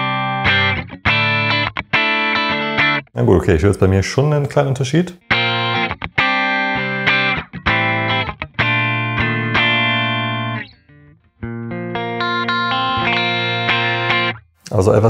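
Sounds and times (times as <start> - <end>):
clean electric guitar chords: 0.0 - 3.1, 5.2 - 14.4.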